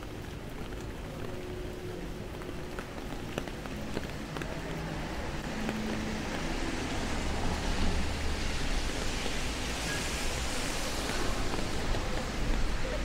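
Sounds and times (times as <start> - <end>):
faint street traffic hum: 0.0 - 13.0
rain on wet pavement: 0.0 - 13.0.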